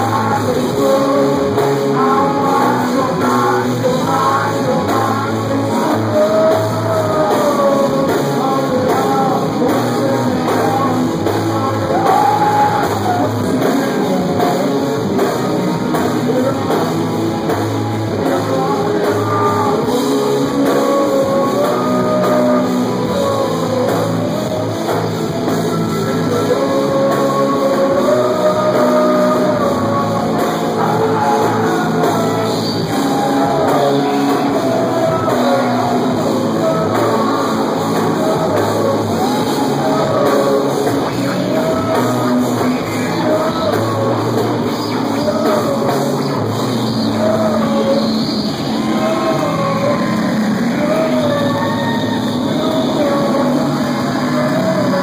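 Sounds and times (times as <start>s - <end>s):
electric guitar: 0.0s - 55.0s
person singing into a microphone: 0.0s - 55.0s
rock band playing live: 0.0s - 55.0s.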